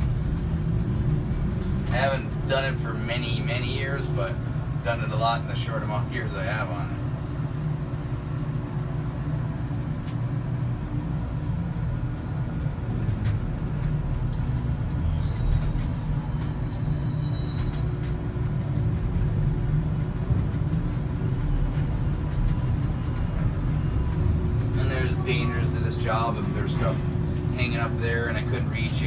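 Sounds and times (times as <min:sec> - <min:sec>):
low machinery drone: 0:00.0 - 0:29.0.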